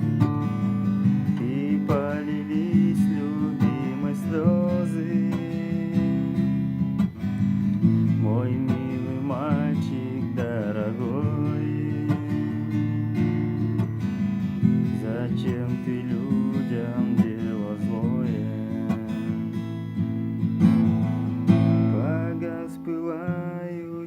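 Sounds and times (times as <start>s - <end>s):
acoustic guitar strumming: 0.0s - 24.0s
picked guitar melody: 0.0s - 24.0s.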